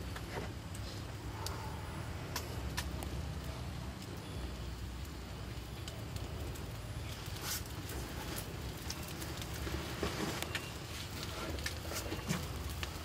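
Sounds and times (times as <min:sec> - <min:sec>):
steady low rumble: 0:00.0 - 0:13.0
wood fire crackling and popping: 0:00.0 - 0:13.0.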